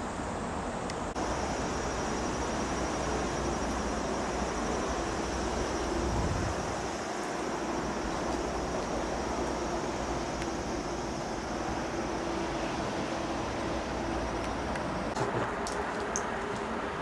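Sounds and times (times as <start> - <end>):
faint constant tone: 0.0 - 17.0
low hum and hiss: 0.0 - 17.0.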